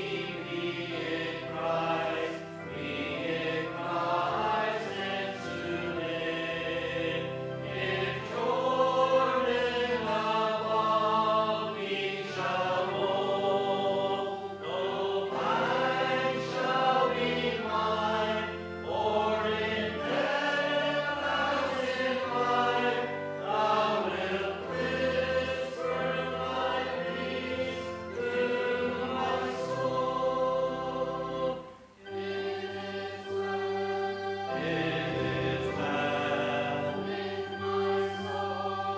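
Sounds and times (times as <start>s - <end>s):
group singing a hymn: 0.0s - 38.9s
sustained accompaniment: 0.0s - 38.9s.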